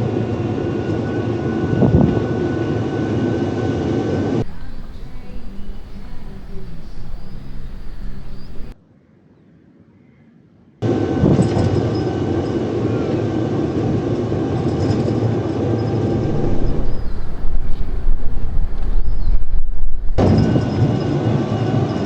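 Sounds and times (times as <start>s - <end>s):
road and wind rumble from buggy: 0.0s - 8.8s, 10.8s - 22.0s.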